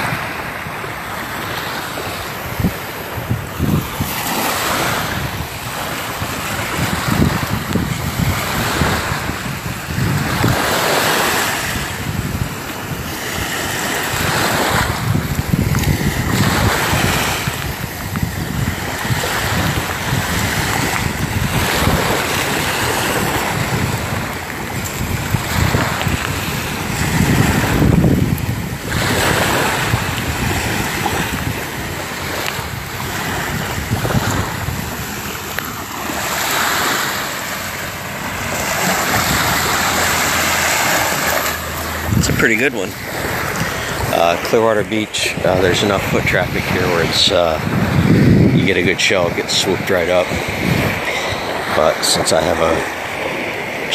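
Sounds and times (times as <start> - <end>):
waves washing on sand: 0.0 - 53.9
wind buffeting microphone: 0.0 - 53.9.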